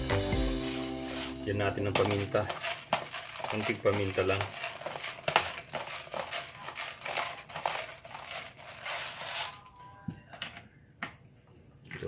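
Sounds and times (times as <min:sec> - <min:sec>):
crinkling and rustling handling noise: 0:00.6 - 0:10.7.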